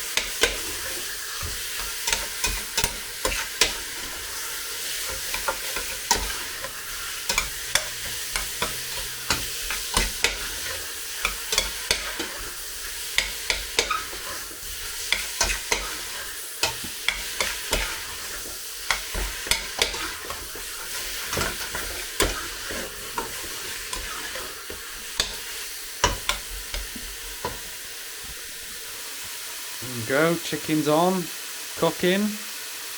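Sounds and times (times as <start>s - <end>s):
utensil scraping a pan: 0.0s - 28.3s
chicken sizzling in a pan: 0.0s - 32.9s.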